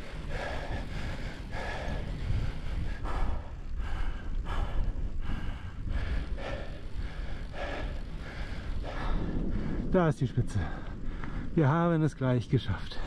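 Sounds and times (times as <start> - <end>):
cyclist breathing hard: 0.0 - 11.6
wind rumble on microphone: 0.0 - 13.0.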